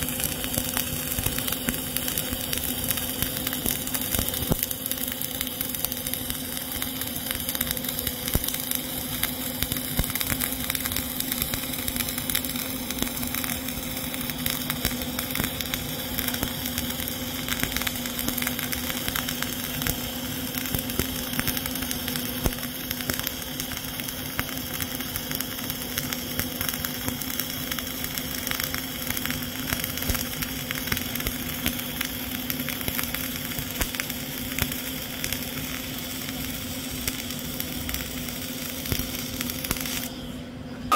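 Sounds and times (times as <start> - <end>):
welding arc crackling and sizzling: 0.0 - 40.9.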